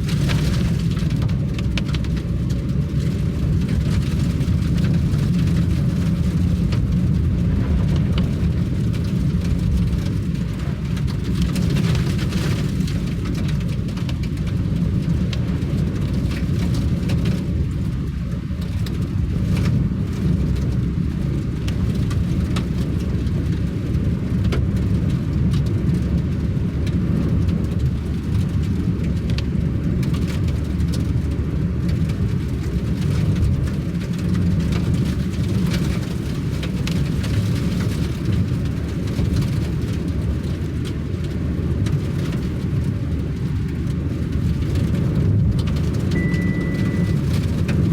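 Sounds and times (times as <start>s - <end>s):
raindrops ticking: 0.0s - 47.9s
vehicle road and engine noise: 0.0s - 47.9s.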